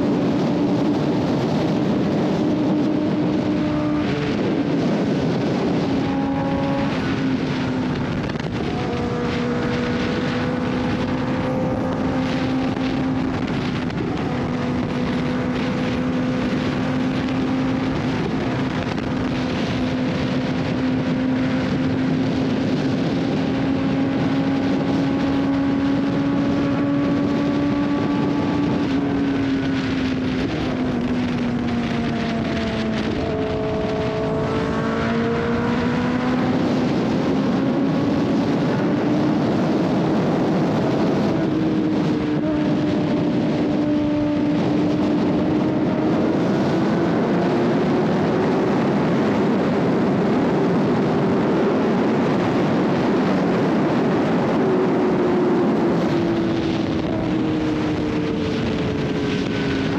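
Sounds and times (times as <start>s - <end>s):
motorcycle engine running: 0.0s - 59.9s
wind rushing: 0.0s - 59.9s.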